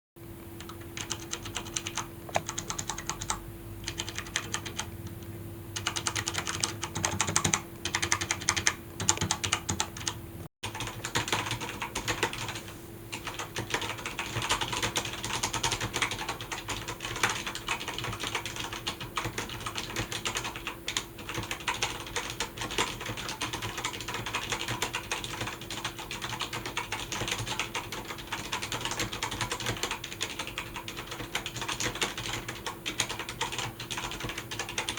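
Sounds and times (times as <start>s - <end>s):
mechanical keyboard typing: 0.6s - 5.2s, 5.8s - 34.9s.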